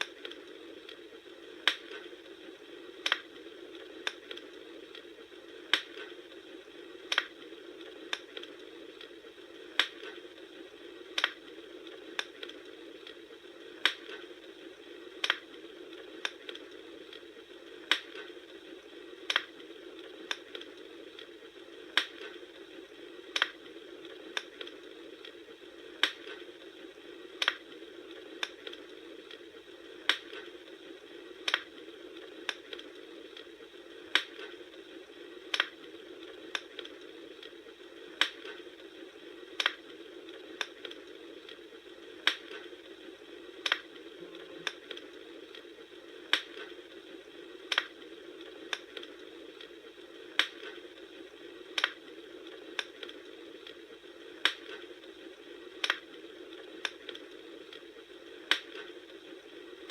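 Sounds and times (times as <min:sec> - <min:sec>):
campfire crackling: 0:00.0 - 0:59.9
steady low hiss: 0:00.0 - 0:59.9.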